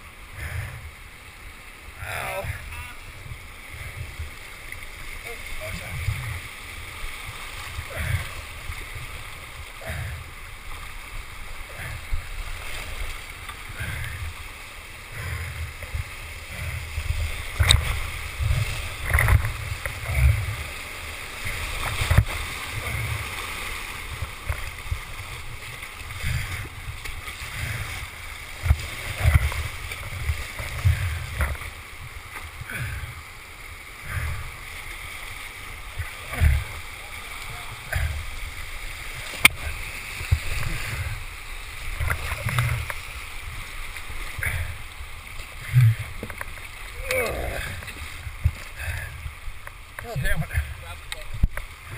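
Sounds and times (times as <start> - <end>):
whitewater rushing and splashing: 0.0 - 51.9.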